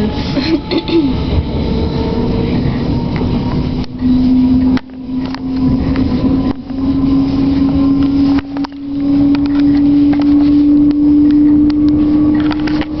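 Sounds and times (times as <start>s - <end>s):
rumble of train wheels: 0.0s - 13.0s
train motor hum: 0.0s - 13.0s.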